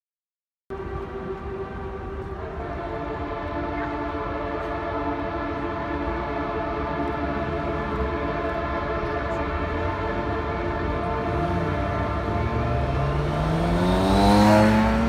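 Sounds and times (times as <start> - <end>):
motorcycle engines droning: 0.7 - 15.0.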